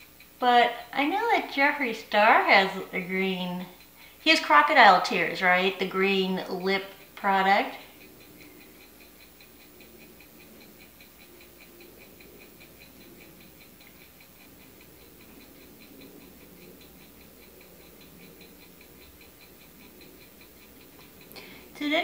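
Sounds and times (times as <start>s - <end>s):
rapid faint ticking: 0.0s - 22.0s.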